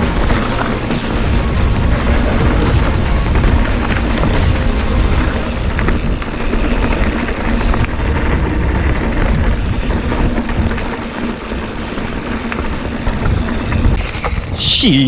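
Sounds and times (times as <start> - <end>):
bike knocking and rattling: 0.0 - 14.6
tyres rumbling over dirt and rocks: 0.0 - 15.0.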